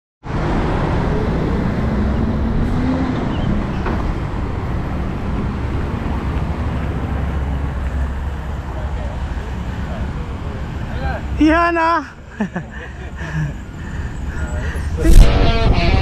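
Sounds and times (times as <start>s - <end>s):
road traffic rumble: 0.2s - 16.0s.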